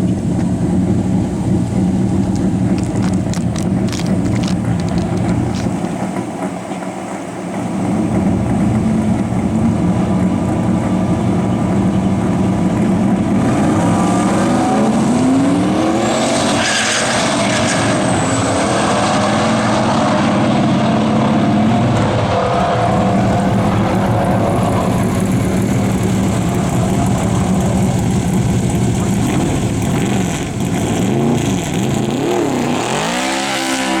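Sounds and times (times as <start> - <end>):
turbocharged car engine revving: 0.0 - 6.4, 7.3 - 34.0.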